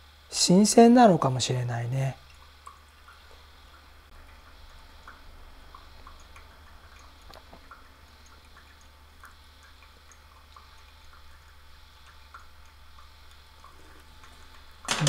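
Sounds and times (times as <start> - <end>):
water trickling from kettle: 0.3 - 14.9.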